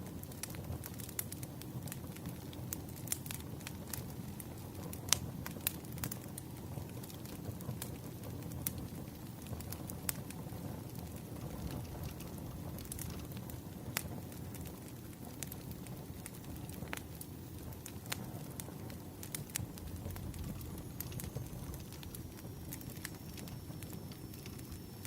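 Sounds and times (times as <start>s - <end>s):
fire popping and snapping: 0.0s - 25.0s
low rumble of burning logs: 0.0s - 25.0s.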